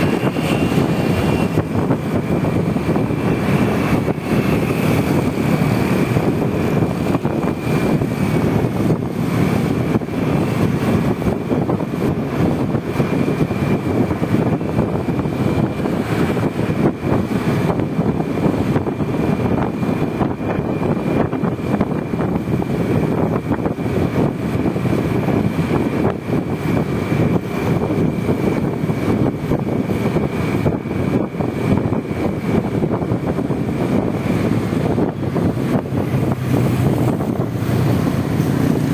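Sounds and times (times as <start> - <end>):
scooter engine and road noise: 0.0 - 38.9
wind buffeting microphone: 0.0 - 38.9.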